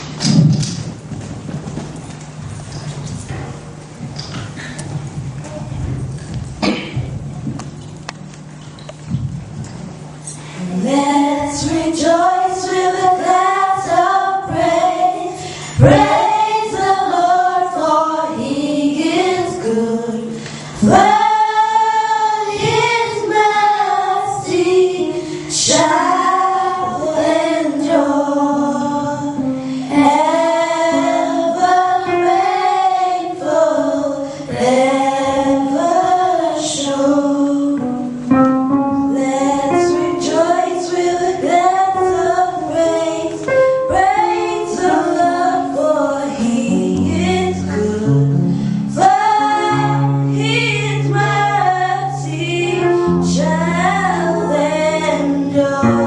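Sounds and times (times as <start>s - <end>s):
children's choir singing: 10.8s - 56.0s.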